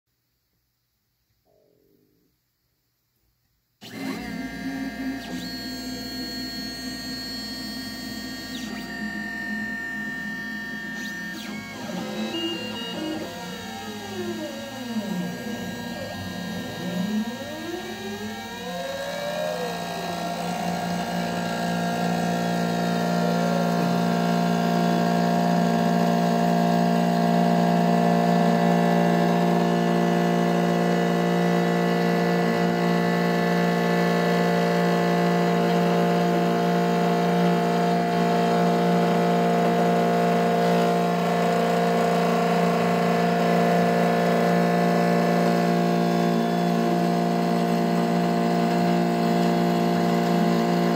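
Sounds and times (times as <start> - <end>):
cnc mill motors whining: 3.8 - 50.9.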